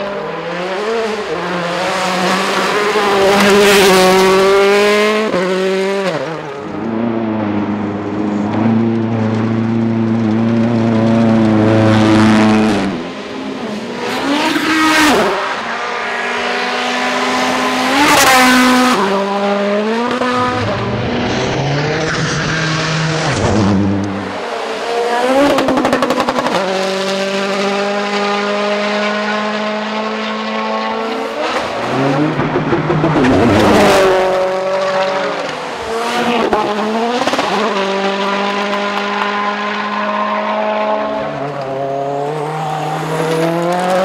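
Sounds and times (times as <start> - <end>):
cars passing by: 0.0 - 44.0
rally car engines at full throttle: 0.0 - 44.0.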